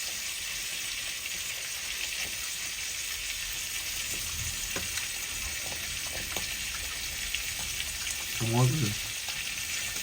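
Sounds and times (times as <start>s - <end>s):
steak sizzling in a pan: 0.0s - 10.0s.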